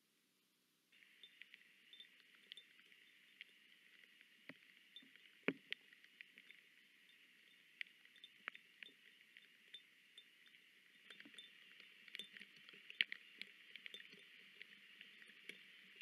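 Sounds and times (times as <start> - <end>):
raindrops dripping and pattering: 0.9 - 16.0.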